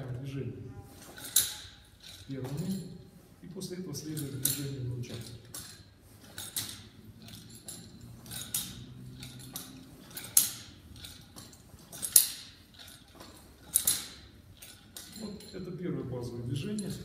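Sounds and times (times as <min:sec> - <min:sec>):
nunchaku chain clinking: 0:00.9 - 0:17.0.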